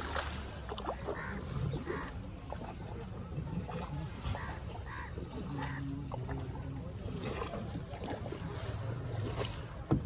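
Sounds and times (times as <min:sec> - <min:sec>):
water sloshing around boat: 0:00.0 - 0:10.0.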